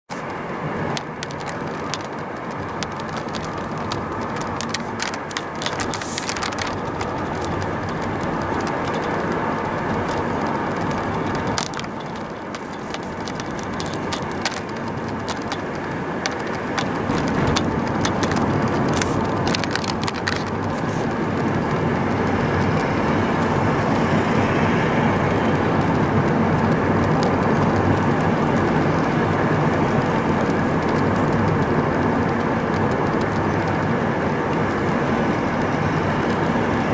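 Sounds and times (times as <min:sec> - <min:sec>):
sharp clicks: 0:00.1 - 0:33.9
diesel truck engine drone: 0:00.1 - 0:36.9
tyre noise: 0:00.1 - 0:36.9.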